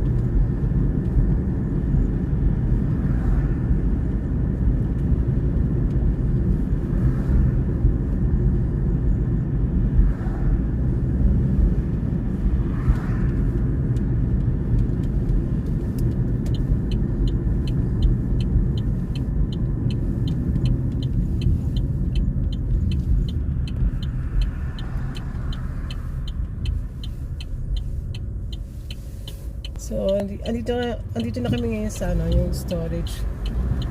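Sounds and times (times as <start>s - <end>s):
car engine and road noise: 0.0s - 33.9s
turn signal ticking: 0.0s - 33.9s.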